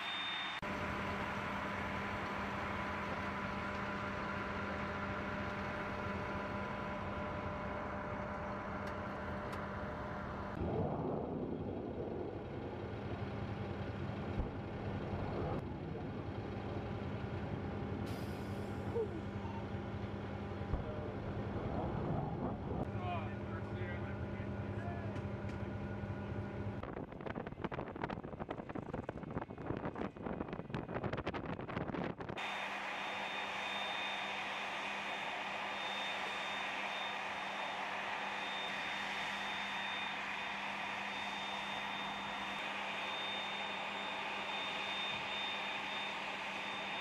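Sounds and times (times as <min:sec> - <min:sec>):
jet engines whining: 0:00.0 - 0:27.0, 0:32.4 - 0:47.0.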